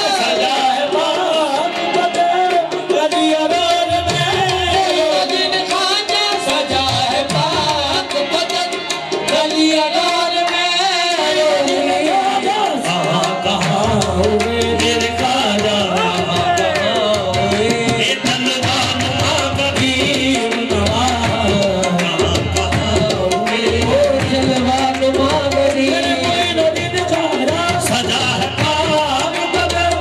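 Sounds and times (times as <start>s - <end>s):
group singing: 0.0s - 30.0s
tabla drumming: 0.0s - 30.0s.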